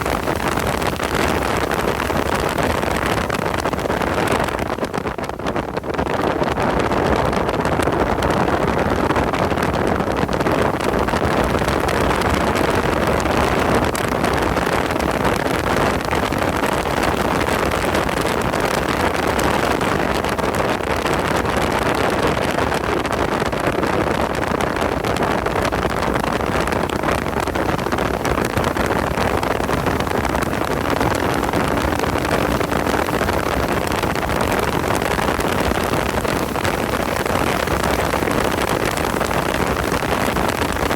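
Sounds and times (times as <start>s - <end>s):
road noise: 0.0s - 40.9s
wind noise: 0.0s - 40.9s.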